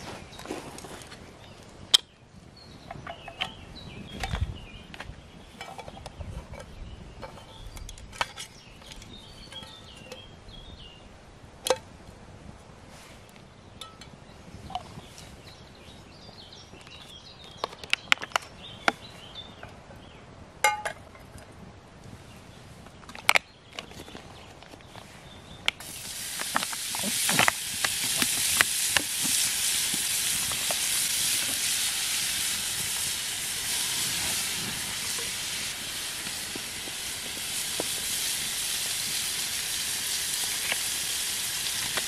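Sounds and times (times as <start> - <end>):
songbirds chirping: 0.0 - 11.8, 13.0 - 41.8.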